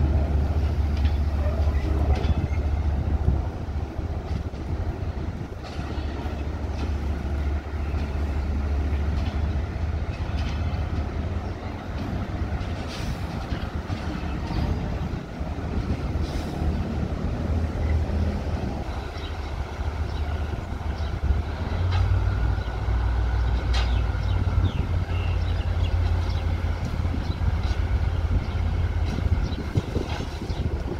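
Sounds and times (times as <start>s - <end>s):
locomotive diesel engine drone: 0.0s - 30.9s.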